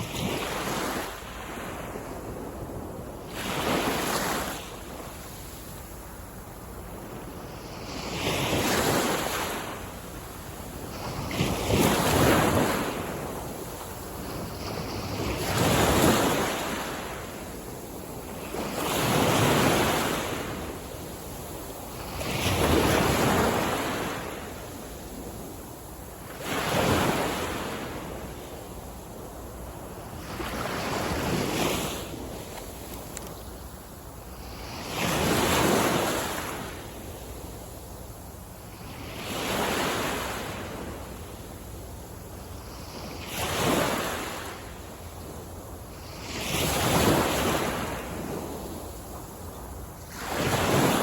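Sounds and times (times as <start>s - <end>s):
waves breaking on beach: 0.0s - 51.0s.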